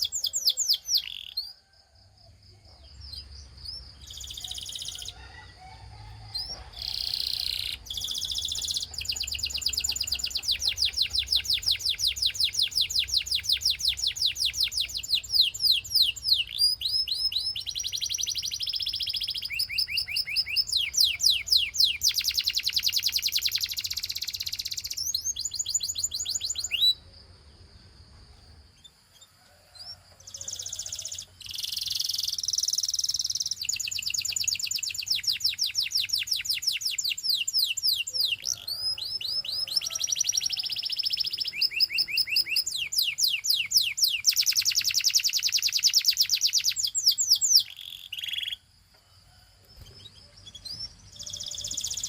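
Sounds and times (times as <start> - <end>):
canary singing trills: 0.0 - 1.7, 2.5 - 5.5, 6.3 - 27.1, 28.4 - 52.0.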